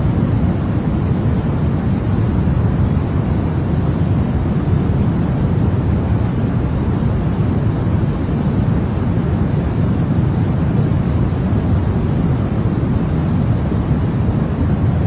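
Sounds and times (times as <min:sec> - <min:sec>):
deep white noise rumble: 0:00.0 - 0:15.0.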